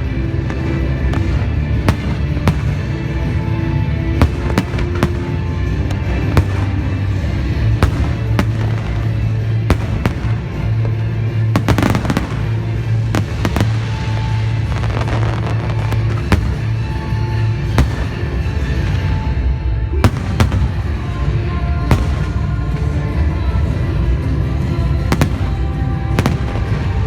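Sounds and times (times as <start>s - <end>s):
fireworks bangs: 0.0s - 23.8s, 24.4s - 27.0s
background music: 0.0s - 27.0s
fireworks crackling: 0.0s - 27.0s.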